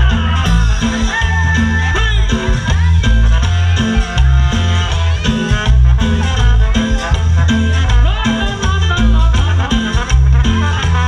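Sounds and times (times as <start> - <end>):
heavy pulsing bass beat: 0.0 - 11.0
latin dance band playing: 0.0 - 11.0.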